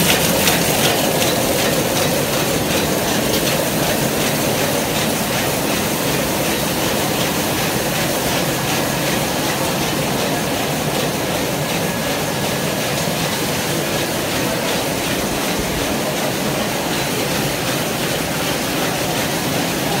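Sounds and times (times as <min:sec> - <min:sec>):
bag making machine clatter: 0:00.0 - 0:20.0.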